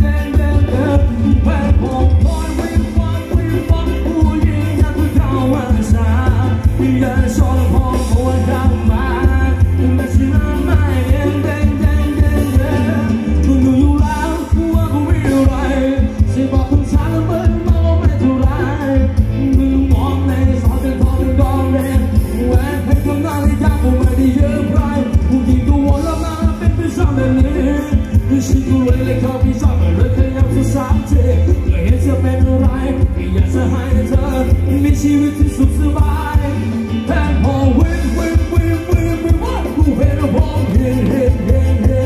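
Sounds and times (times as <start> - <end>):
heavy bass beat: 0.0 - 42.0
live band playing dance music: 0.0 - 42.0
person singing: 0.0 - 42.0.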